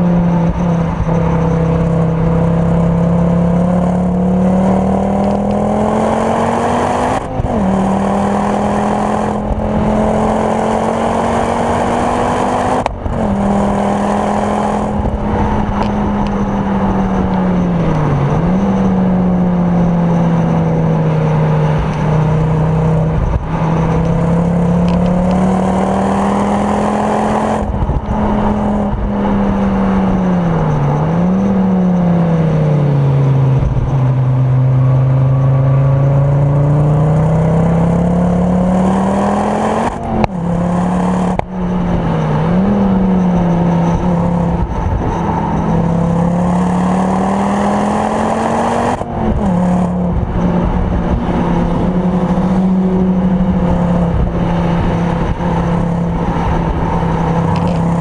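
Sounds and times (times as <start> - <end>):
turbocharged car engine revving: 0.0 - 58.0.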